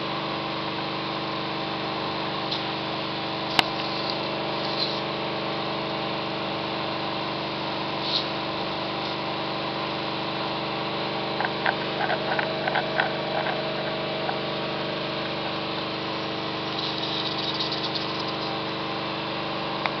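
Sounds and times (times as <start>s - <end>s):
electrical hum: 1.8s - 20.0s.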